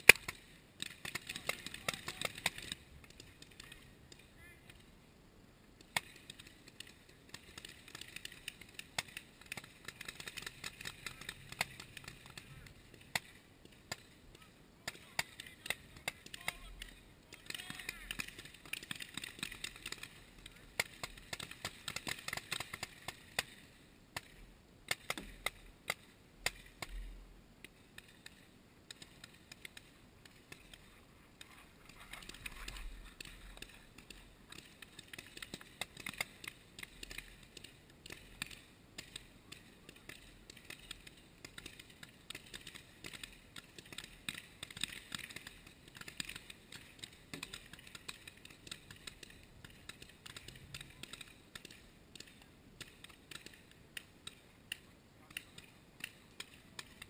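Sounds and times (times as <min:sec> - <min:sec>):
paintball markers popping: 0:00.0 - 0:04.9, 0:05.8 - 0:57.0.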